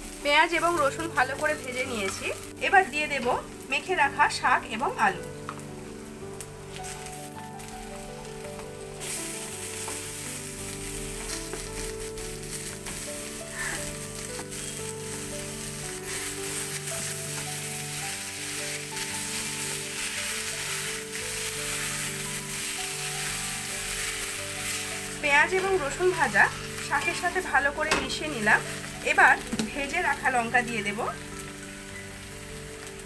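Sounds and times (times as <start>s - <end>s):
soft background music: 0.0s - 33.0s
vegetables sizzling in oil: 0.0s - 33.0s.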